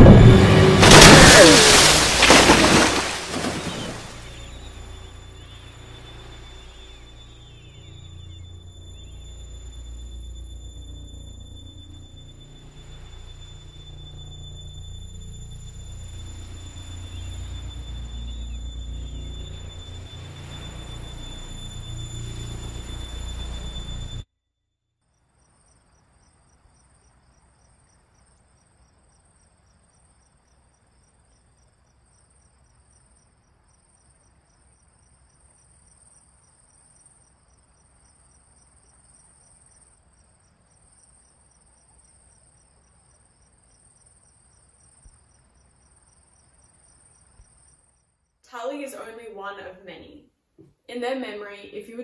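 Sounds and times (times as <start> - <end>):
crickets chirping: 0.0 - 24.3, 25.0 - 50.1.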